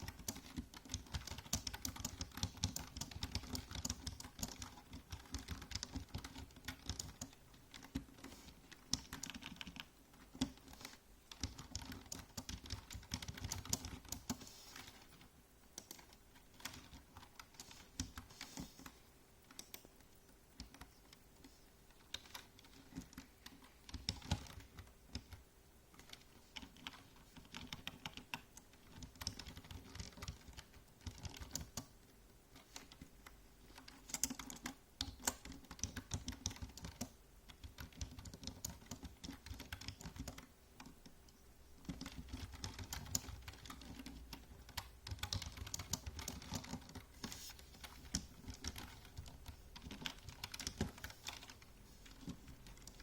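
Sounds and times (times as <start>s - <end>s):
computer keyboard typing: 0.0s - 53.0s
faint steady hum: 0.0s - 53.0s.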